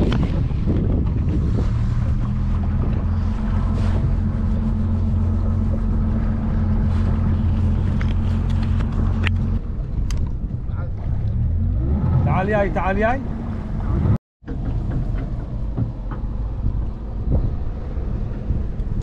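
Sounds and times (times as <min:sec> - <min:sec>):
motorboat engine humming: 0:00.0 - 0:19.0.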